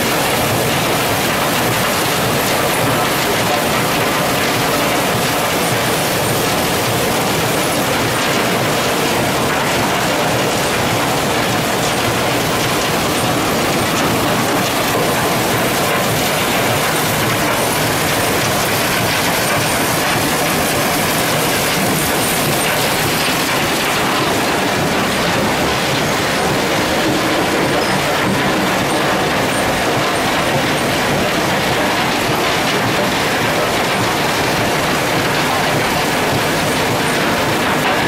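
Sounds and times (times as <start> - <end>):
industrial machinery running: 0.0 - 38.0.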